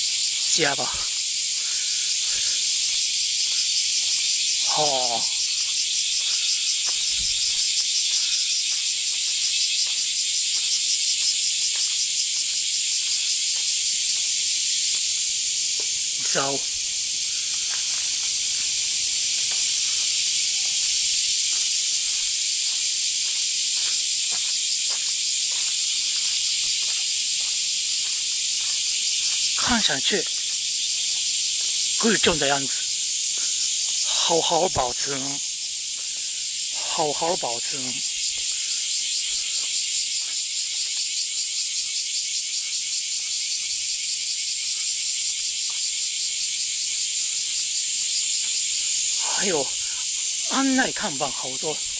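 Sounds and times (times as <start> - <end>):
faint footsteps: 0.0 - 34.8, 35.4 - 51.9
cicadas buzzing: 0.0 - 51.9
loud steady high hiss: 0.0 - 51.9.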